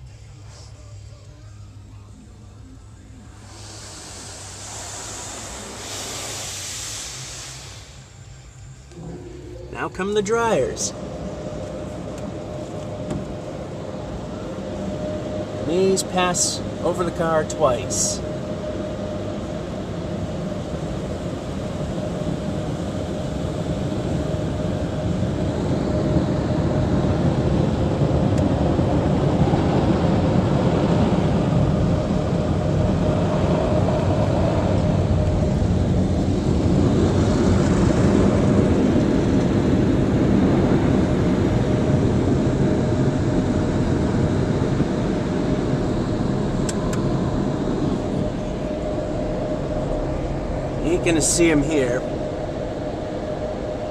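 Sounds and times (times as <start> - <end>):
constant hum: 0.0 - 53.9
blow dryers rushing air: 3.3 - 53.9.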